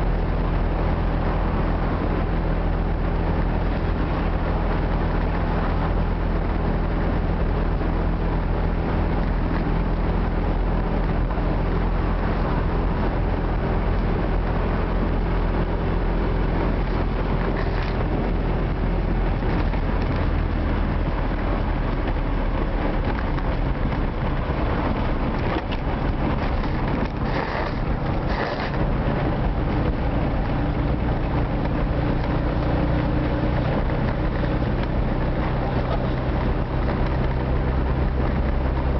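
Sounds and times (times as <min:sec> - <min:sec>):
car engine drone: 0:00.0 - 0:38.9
road and wind noise: 0:00.0 - 0:38.9.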